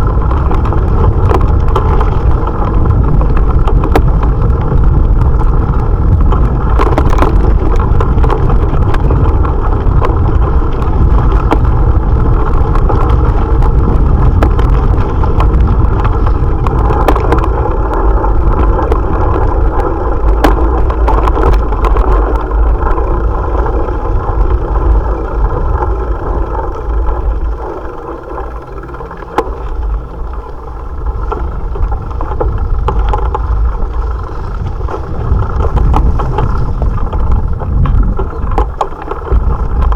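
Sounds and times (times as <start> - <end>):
bicycle road noise: 0.0 - 39.9
knocks and rattles: 0.0 - 39.9
wind over microphone: 0.0 - 39.9.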